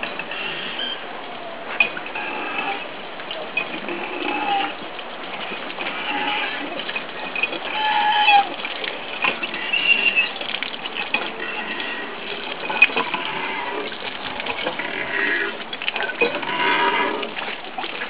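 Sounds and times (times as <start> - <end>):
hand water pump working: 0.0 - 18.0
water splashing on concrete: 0.0 - 18.0.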